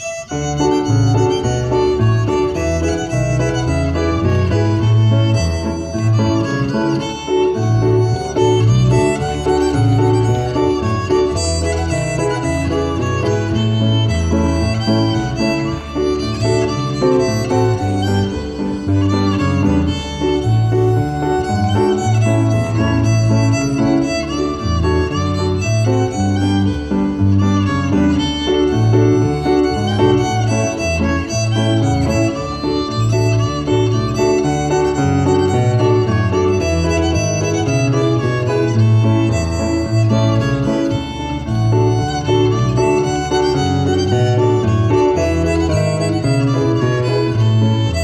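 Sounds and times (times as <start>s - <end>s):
fiddle tune on violin: 0.0s - 48.0s
piano bass notes: 0.0s - 48.0s.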